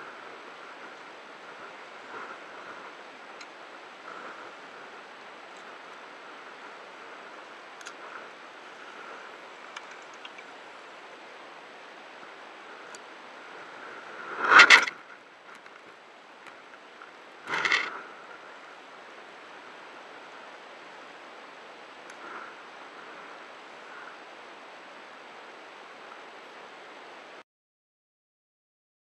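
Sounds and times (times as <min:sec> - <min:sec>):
sea and wind noise: 0:00.0 - 0:27.4.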